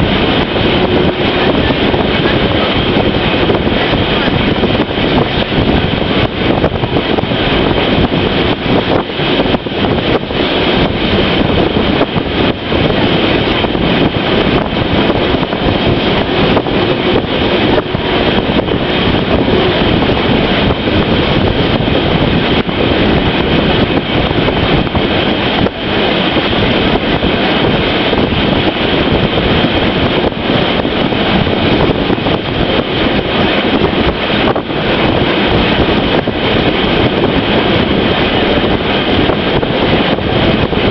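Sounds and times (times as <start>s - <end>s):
rail clatter: 0.0s - 40.9s
train rumble: 0.0s - 40.9s.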